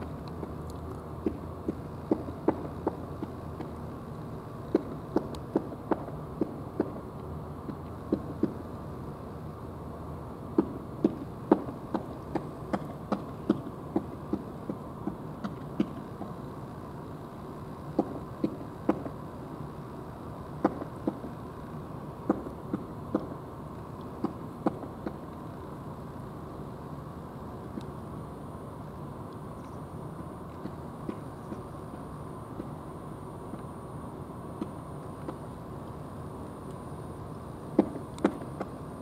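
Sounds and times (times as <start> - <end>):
low background noise: 0.0 - 39.0.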